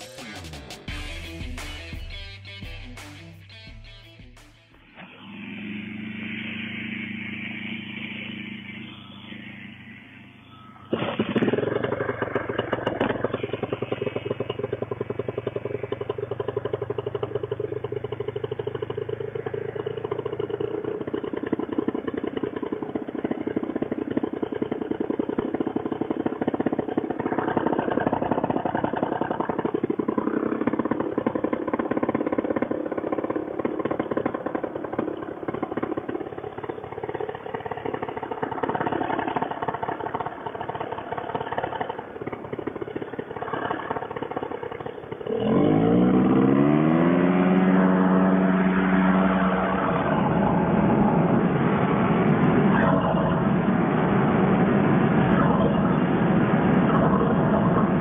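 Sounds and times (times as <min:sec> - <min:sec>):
paramotor engine idling and revving: 0:04.8 - 0:58.0.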